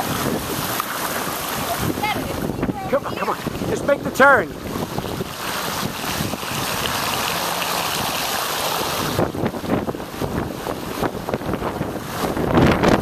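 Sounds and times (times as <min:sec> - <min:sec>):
bicycle wheels splashing through water: 0:00.0 - 0:13.0
wind buffeting microphone: 0:00.0 - 0:13.0.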